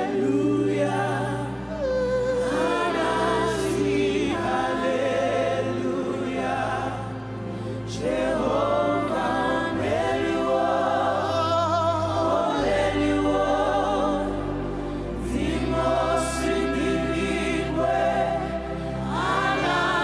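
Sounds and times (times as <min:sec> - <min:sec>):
congregation singing gospel: 0:00.0 - 0:20.0
low accompaniment chords: 0:00.0 - 0:20.0.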